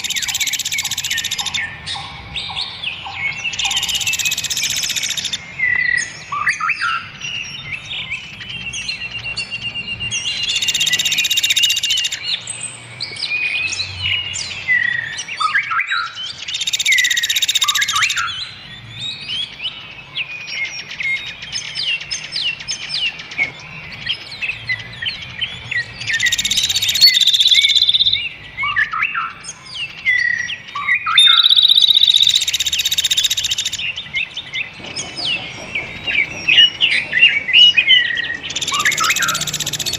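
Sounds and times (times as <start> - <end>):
songbird chorus: 0.0 - 39.9.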